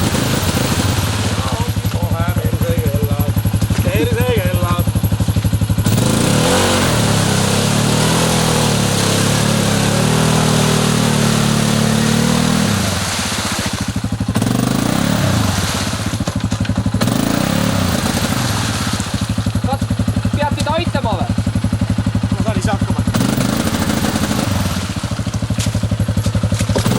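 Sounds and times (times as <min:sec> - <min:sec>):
atv engine running: 0:00.0 - 0:26.9.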